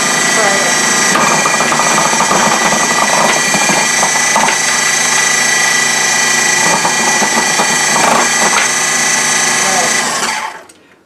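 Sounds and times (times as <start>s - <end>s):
food processor motor whine: 0.0s - 10.7s.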